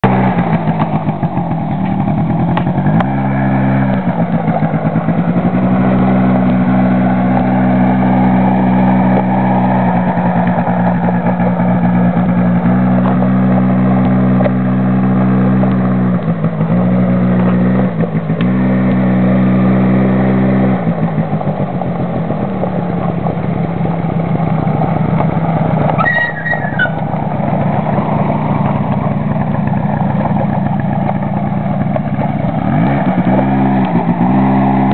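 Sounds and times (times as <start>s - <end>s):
quad bike engine running: 0.0s - 34.9s.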